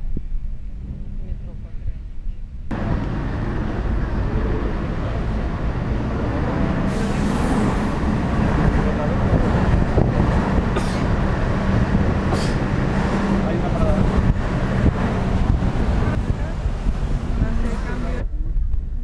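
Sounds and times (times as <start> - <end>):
bus engine hum: 0.0 - 19.0
street traffic: 0.0 - 19.0.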